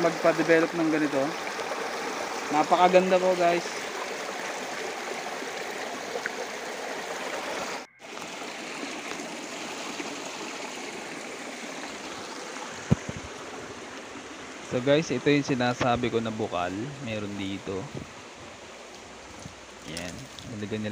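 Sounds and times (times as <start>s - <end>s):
stream water flowing: 0.0s - 20.9s.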